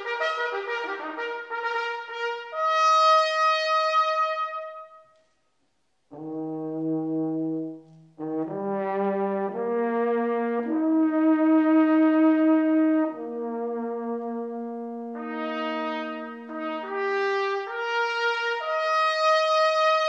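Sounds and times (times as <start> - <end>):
brass band playing a hymn: 0.0 - 4.9, 6.1 - 20.0.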